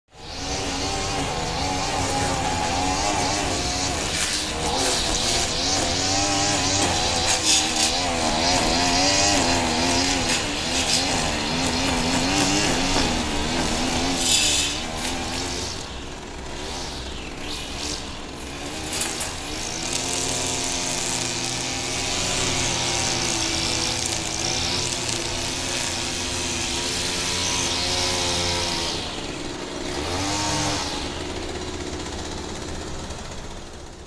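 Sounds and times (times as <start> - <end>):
grass trimmer engine running: 0.1 - 34.0.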